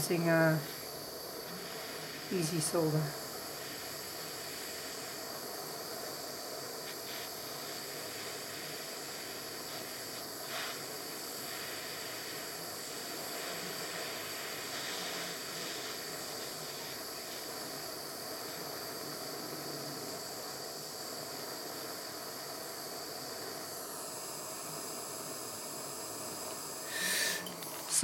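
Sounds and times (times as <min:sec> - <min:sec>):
gas torch flame hissing: 0:00.0 - 0:28.0.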